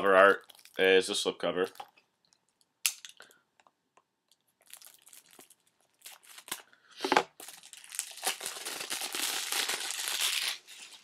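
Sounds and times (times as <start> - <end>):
plastic shrink wrap crinkling: 0.0 - 2.7, 4.3 - 11.0.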